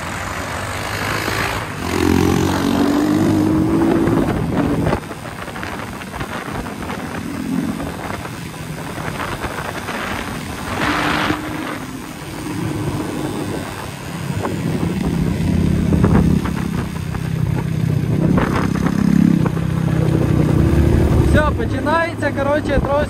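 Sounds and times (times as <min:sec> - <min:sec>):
motorcycle engines revving: 0:00.0 - 0:23.0
rush of noise: 0:00.0 - 0:23.0.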